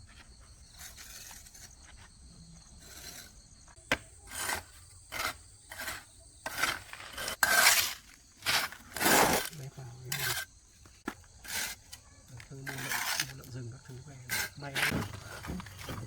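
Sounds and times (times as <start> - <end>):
scraping strokes: 0.0 - 16.0.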